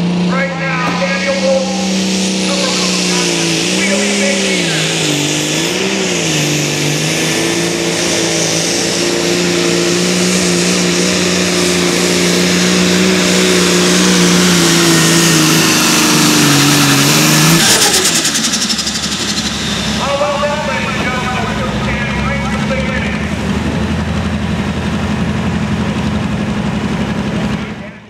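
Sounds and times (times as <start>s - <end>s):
fluttering rush of engine winding down: 0.0s - 28.0s
tractor engine running flat out: 0.0s - 28.0s.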